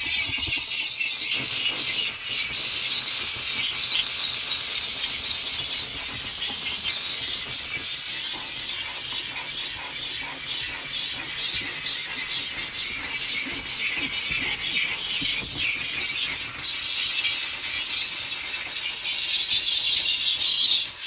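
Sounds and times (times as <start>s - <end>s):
steam cleaner hissing: 0.0s - 21.0s.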